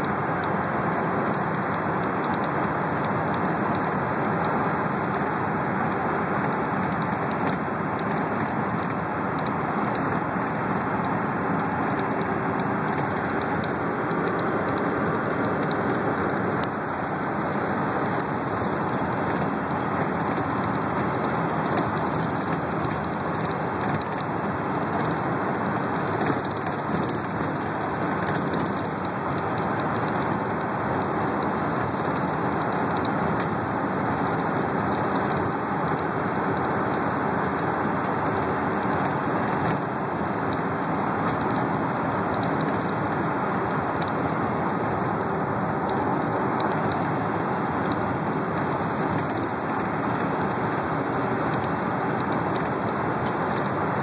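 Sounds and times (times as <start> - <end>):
bus engine and road noise: 0.0 - 54.0
light rattles and ticks: 0.0 - 54.0.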